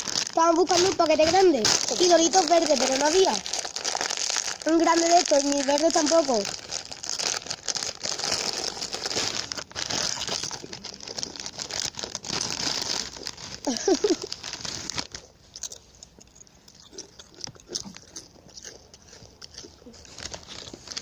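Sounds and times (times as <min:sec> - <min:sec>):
crisps being chewed: 0:00.0 - 0:21.0
plastic snack bag crinkling: 0:00.0 - 0:21.0.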